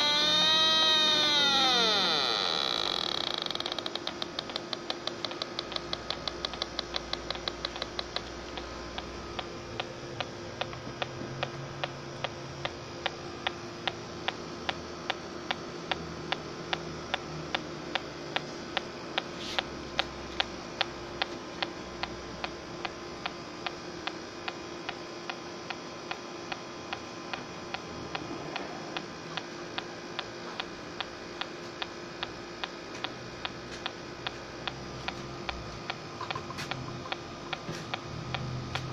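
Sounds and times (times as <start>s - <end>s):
leak detector ticking: 0.0s - 38.9s.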